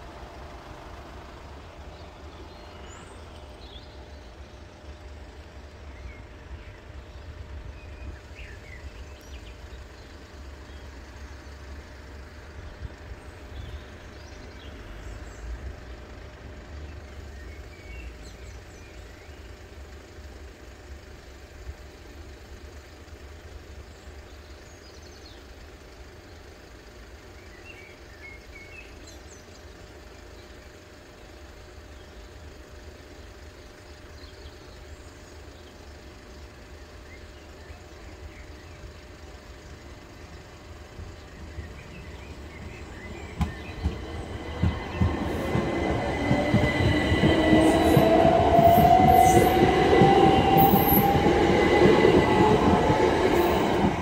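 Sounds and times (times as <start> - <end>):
low outdoor rumble: 0.0 - 54.0.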